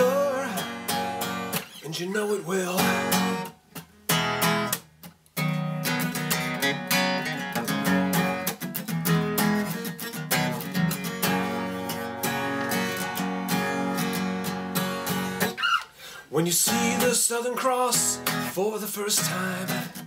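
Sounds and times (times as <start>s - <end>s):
acoustic guitar strumming: 0.0s - 15.8s, 16.4s - 20.0s.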